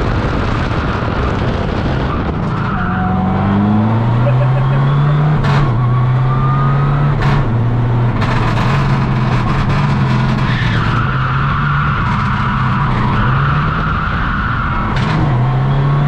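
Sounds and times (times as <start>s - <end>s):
car engine under hard driving: 0.0s - 16.0s.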